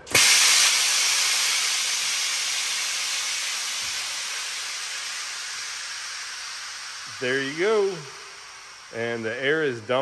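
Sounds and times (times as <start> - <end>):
compressed air hissing: 0.0 - 10.0.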